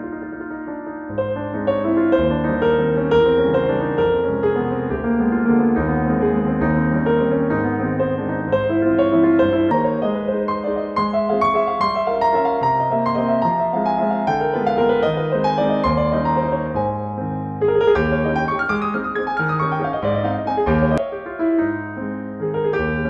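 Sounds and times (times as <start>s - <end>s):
gentle solo piano: 0.0s - 23.0s.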